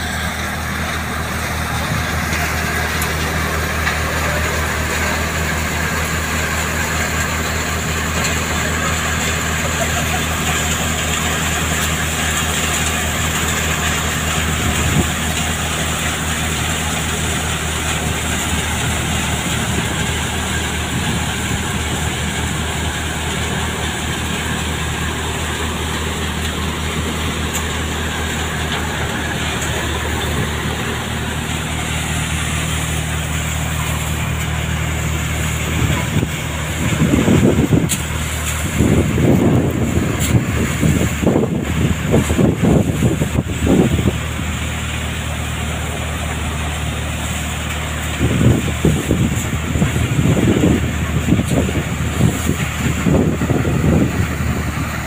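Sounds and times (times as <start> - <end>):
thresher machine running: 0.0 - 55.0.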